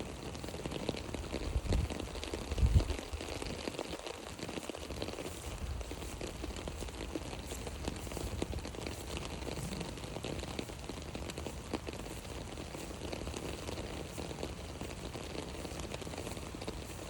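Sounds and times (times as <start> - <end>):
rain on an umbrella: 0.0 - 17.0.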